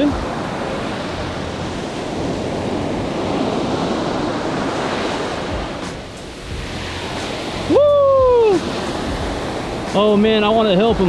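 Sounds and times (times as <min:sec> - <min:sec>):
waves breaking on beach: 0:00.0 - 0:11.0
wind on microphone: 0:00.0 - 0:11.0.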